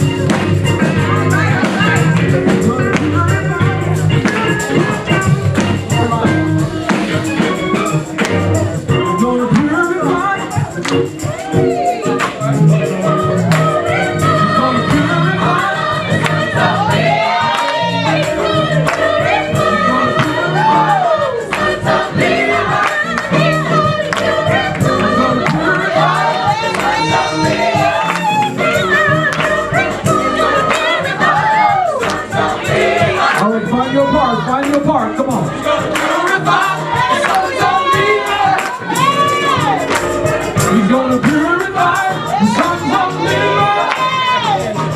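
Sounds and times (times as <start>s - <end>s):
gospel choir singing: 0.0s - 44.9s
instrumental accompaniment: 0.0s - 44.9s
steady percussion beat: 0.0s - 44.9s.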